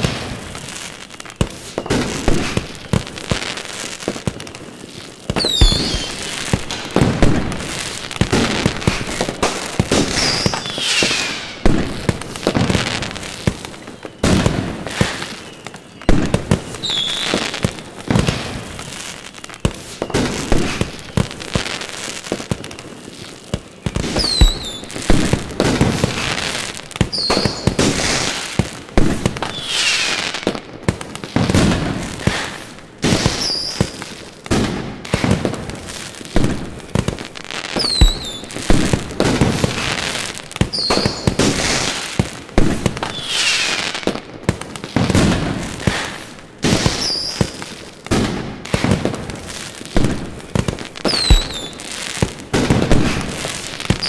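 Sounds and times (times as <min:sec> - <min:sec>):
falling whistles of fireworks: 0:00.0 - 0:54.0
fireworks bangs and crackling: 0:00.0 - 0:54.0.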